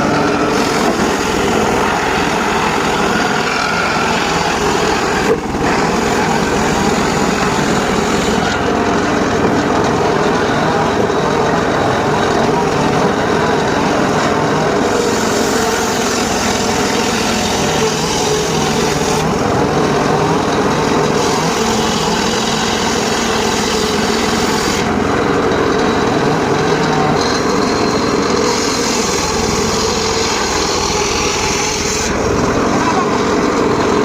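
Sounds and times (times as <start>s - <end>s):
circular sawmill sawing wood: 0.0s - 34.0s.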